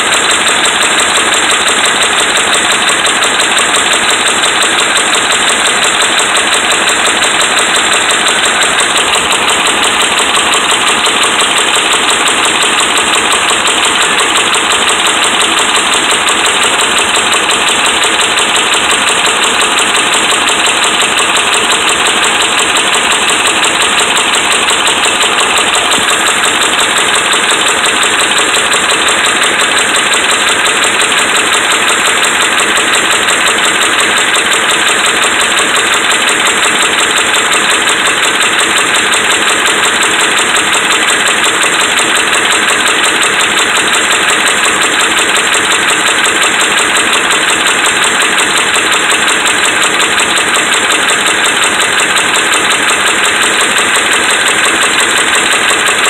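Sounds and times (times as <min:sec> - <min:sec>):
engine idling with knock: 0:00.0 - 0:56.0.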